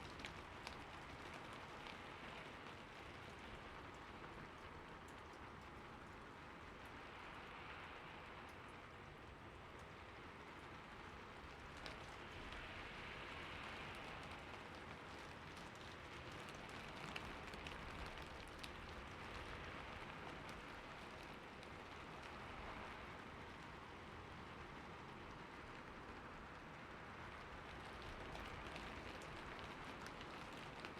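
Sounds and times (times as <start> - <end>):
quiet rain falling: 0.0 - 30.9.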